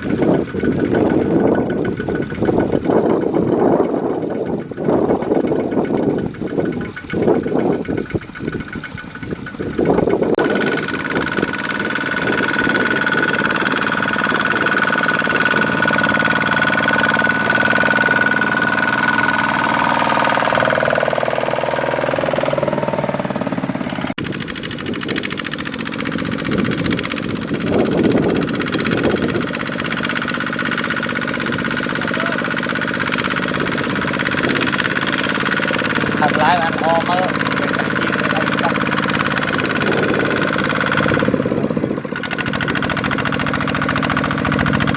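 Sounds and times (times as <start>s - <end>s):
diesel tractor engine clattering: 0.0s - 44.9s
high engine whine: 0.0s - 44.9s.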